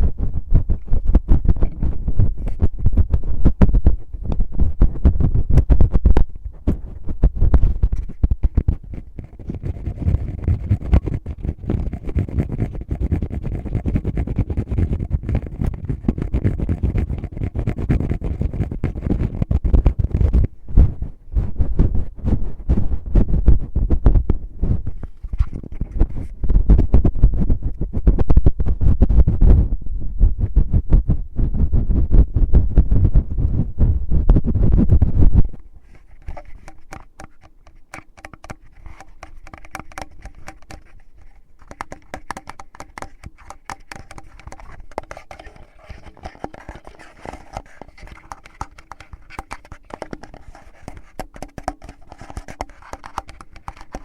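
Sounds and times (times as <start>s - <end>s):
low thumps on microphone: 0.0s - 51.8s
fingers rubbing and scratching microphone: 0.0s - 54.0s.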